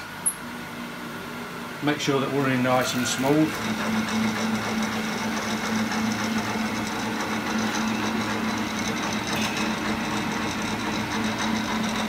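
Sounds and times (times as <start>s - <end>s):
bandsaw motor hum: 0.0s - 12.0s.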